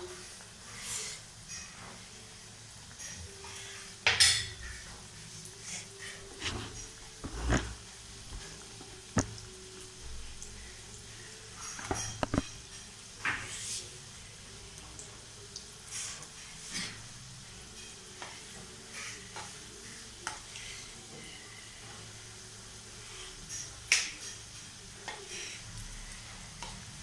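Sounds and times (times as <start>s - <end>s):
food deep-frying in oil: 0.0s - 27.0s.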